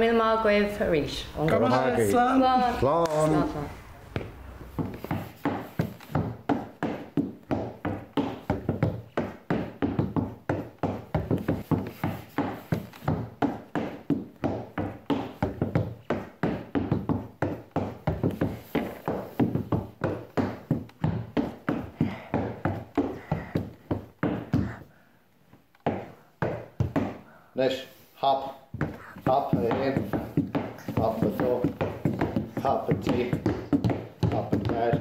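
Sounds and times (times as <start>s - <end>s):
dance steps on wooden floor: 2.8s - 27.3s, 28.4s - 35.0s.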